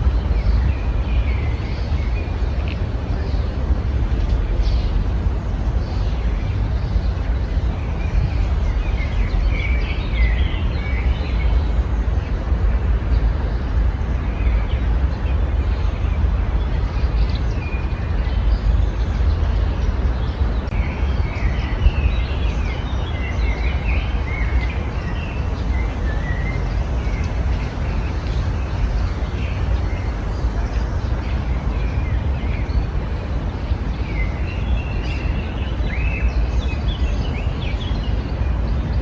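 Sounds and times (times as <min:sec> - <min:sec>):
small songbirds chirping: 0:00.0 - 0:39.0.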